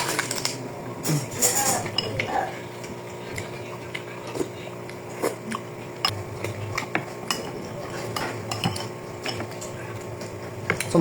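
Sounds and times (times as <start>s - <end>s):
utensils clinking against dishes: 0.0s - 3.0s, 5.2s - 11.0s.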